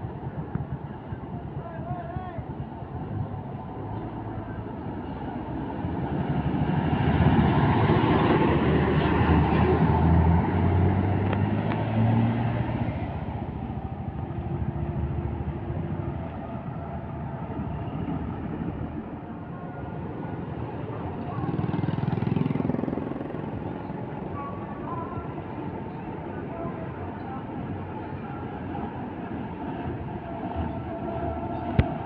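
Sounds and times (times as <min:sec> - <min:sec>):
road traffic noise: 0:00.0 - 0:32.0
diesel bus engine accelerating: 0:02.7 - 0:32.0.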